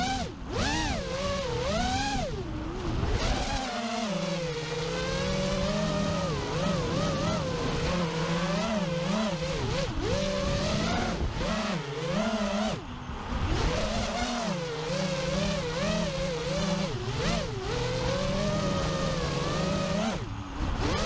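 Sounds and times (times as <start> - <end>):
quadcopter propellers whining: 0.0 - 21.0.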